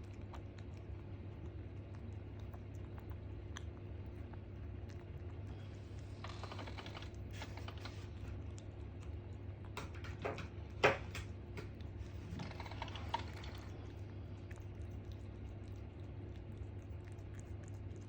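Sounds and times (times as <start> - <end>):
kitten chewing and licking food: 0.0 - 18.0.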